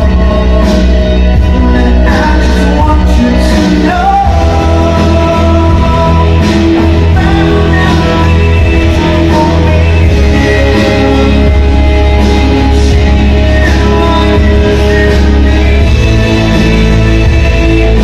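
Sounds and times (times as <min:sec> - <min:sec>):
loud rock music: 0:00.0 - 0:18.0
man singing: 0:00.0 - 0:18.0.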